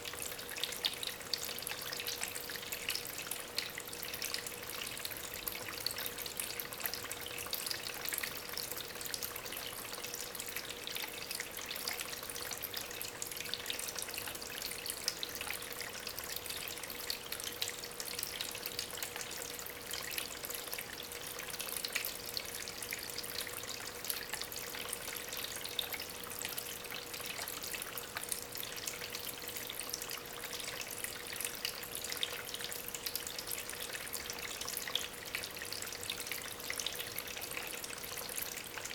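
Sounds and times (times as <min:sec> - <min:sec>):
water trickling over stones: 0:00.0 - 0:38.9.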